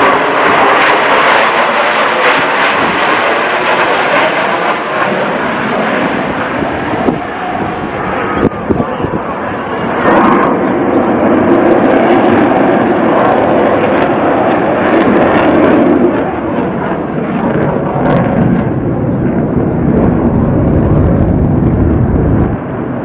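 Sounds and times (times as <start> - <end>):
fighter jets flying overhead: 0.0 - 23.0.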